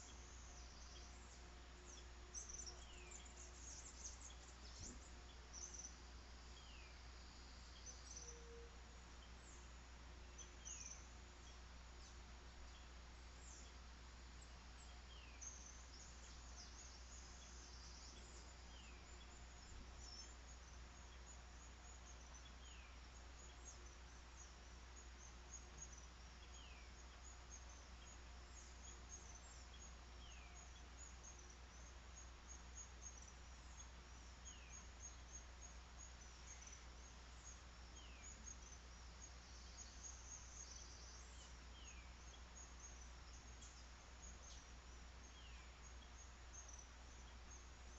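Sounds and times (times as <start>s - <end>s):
insects and birds chirping: 0.0s - 47.9s
steady low hum: 0.0s - 47.9s.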